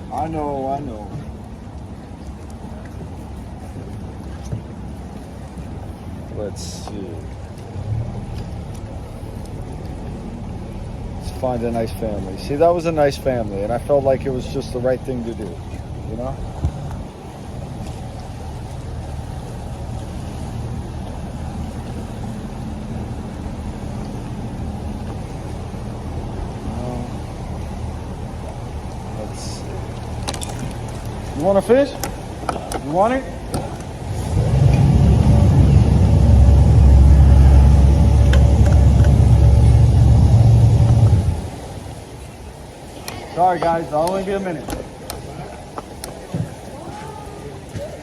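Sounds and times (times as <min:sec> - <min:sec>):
boat engine humming: 0:00.0 - 0:48.0.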